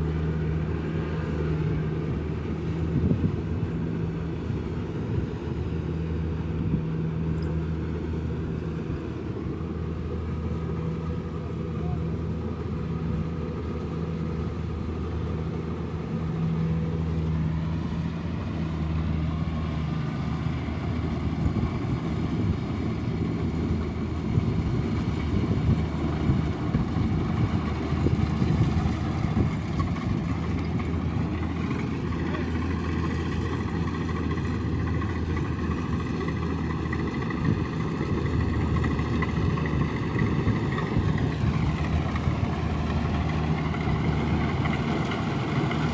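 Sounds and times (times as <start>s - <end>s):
combine harvester engine hum: 0.0s - 45.9s.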